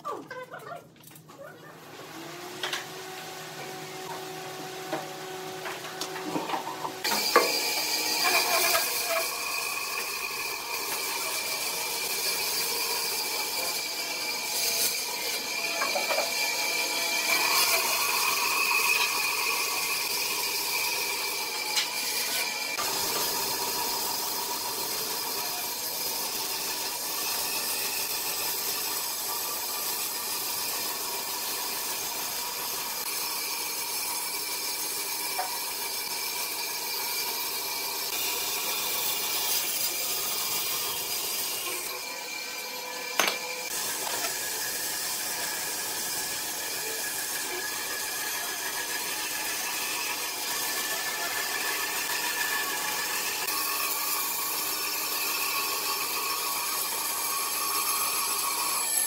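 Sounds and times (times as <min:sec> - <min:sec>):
bandsaw cutting wood: 0:01.9 - 0:59.0.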